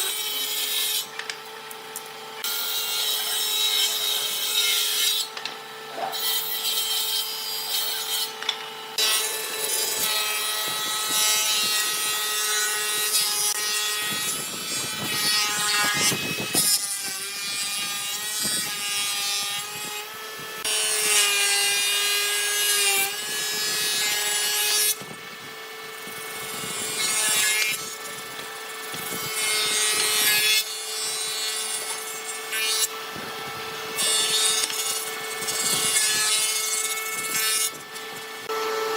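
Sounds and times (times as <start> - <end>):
power tool motor whine: 0.0 - 38.9.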